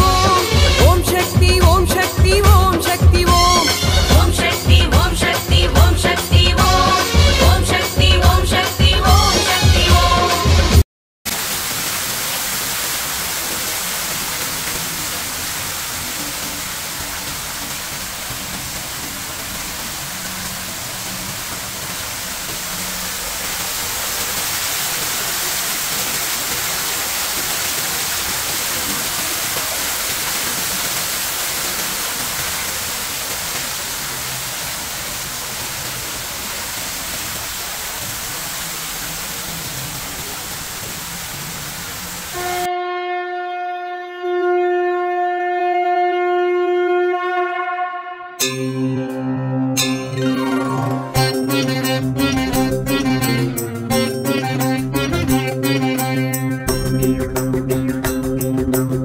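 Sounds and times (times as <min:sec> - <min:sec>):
falling water rushing: 0:00.0 - 0:10.6, 0:11.3 - 0:42.7, 0:49.8 - 0:58.9.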